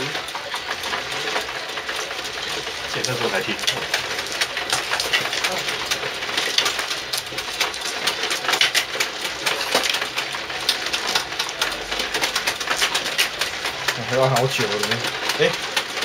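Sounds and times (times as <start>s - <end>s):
mahjong tiles clacking: 0.0s - 16.0s.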